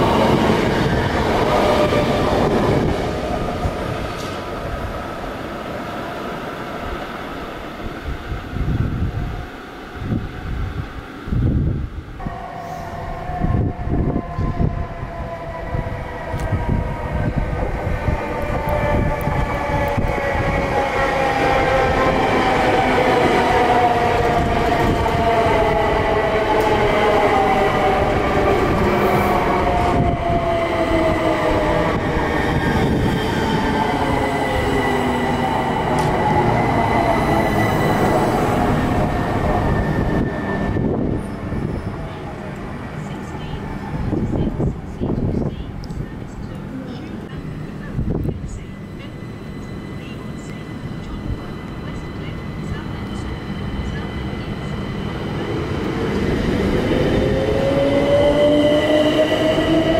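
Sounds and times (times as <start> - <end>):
train wheels rumbling on rails: 0.0 - 7.1, 13.0 - 59.9.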